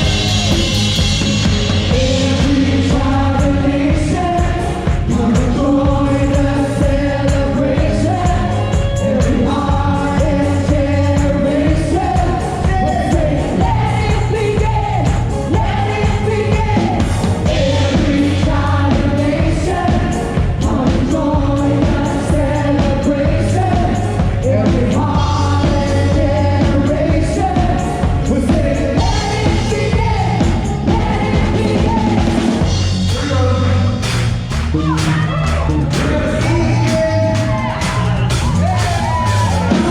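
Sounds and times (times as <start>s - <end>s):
band playing worship song: 0.0s - 39.9s
drums: 0.0s - 39.9s
person singing: 1.8s - 34.0s.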